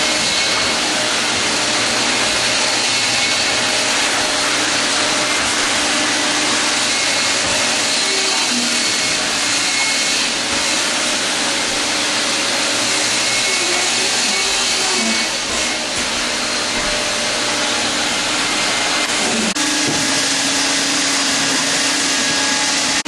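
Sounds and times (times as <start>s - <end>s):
shop vacuum motor running: 0.0s - 23.0s.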